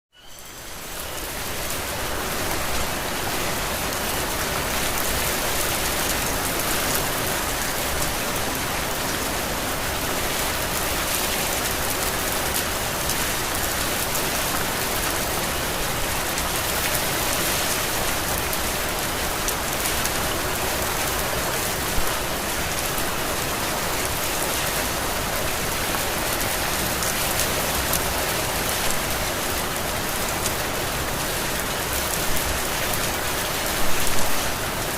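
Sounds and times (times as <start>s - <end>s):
heavy rain pouring: 0.3s - 34.9s.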